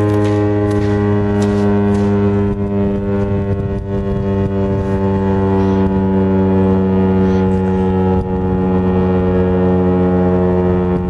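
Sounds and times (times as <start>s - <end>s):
warning siren steady tone: 0.0s - 11.0s.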